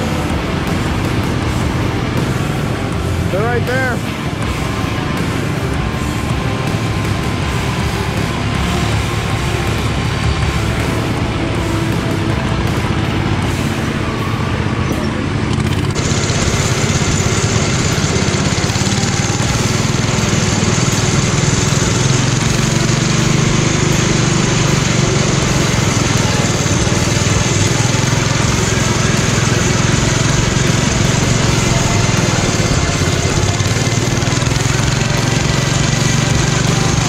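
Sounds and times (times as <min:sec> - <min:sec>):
riding lawn mower engine running: 0:00.0 - 0:37.0.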